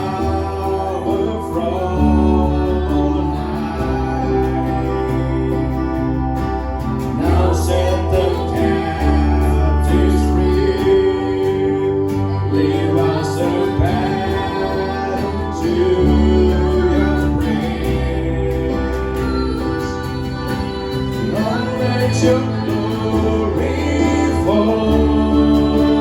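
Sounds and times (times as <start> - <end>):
band playing slow worship song: 0.0 - 26.0
deep held bass: 0.0 - 26.0
people singing: 0.0 - 26.0.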